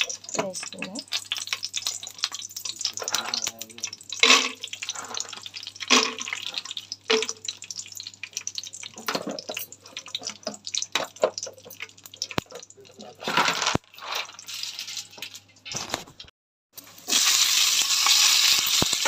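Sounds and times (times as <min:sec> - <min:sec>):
hot oil crackling and spitting: 0:00.0 - 0:19.0.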